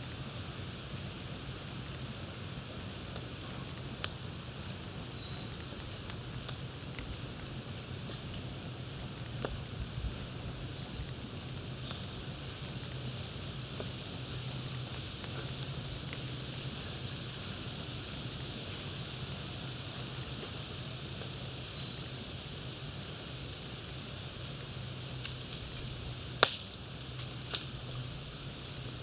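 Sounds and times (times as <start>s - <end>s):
campfire crackling: 0.0s - 29.0s
sharp pops from fire: 0.0s - 29.0s.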